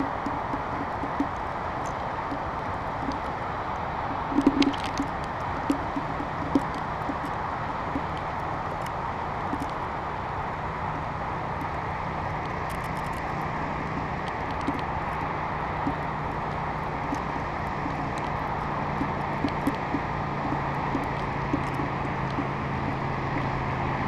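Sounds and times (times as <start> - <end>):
low steady hum: 0.0 - 24.0
wind rushing over camera: 0.0 - 24.0.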